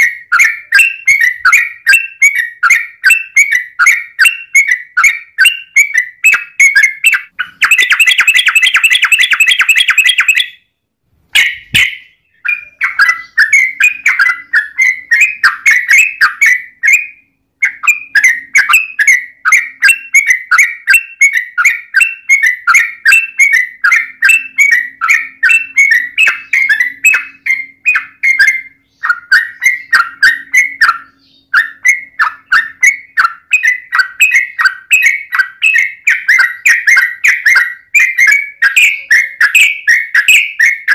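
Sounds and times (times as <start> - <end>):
bulbul trilling and chattering: 0.0 - 10.7, 11.4 - 40.9.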